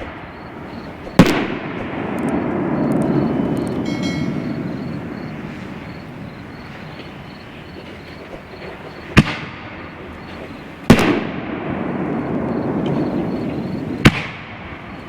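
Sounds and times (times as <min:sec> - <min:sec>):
firework shells banging: 0:00.0 - 0:15.0
low rolling echo rumble: 0:00.3 - 0:09.0, 0:11.2 - 0:15.0.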